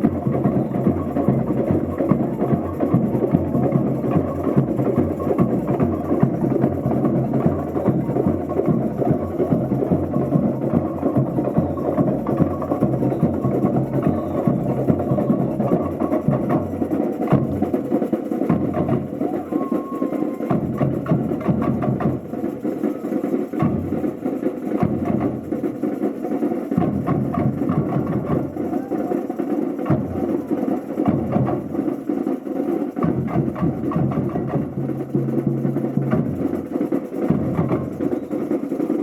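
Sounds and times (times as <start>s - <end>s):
samba percussion band: 0.0s - 39.0s.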